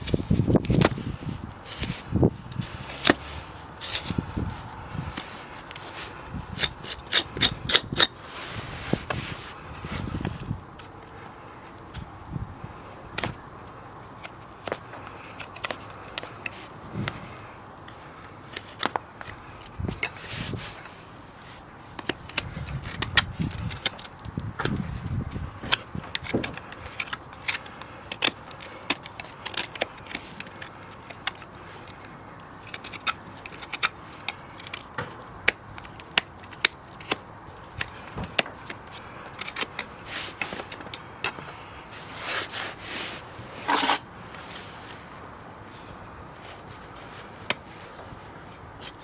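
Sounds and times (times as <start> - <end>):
hoof trimming tools clicking and scraping: 0.0 - 12.1, 13.2 - 45.0.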